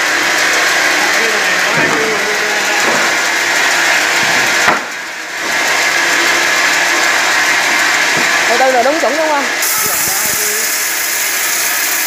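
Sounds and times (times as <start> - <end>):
rip saw running: 0.0 - 12.0.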